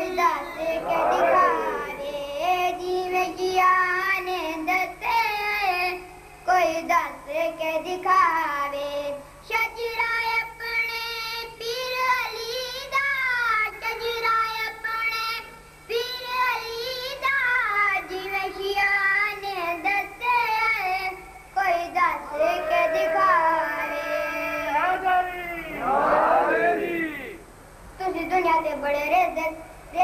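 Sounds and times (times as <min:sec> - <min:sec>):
boy singing into a microphone: 0:00.0 - 0:25.0, 0:28.0 - 0:30.0.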